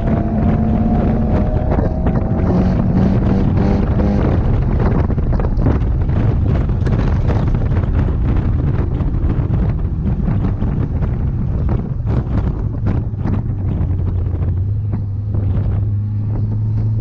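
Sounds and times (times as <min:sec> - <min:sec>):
car engine droning: 0:00.0 - 0:17.0
tyre and wind noise: 0:00.0 - 0:17.0.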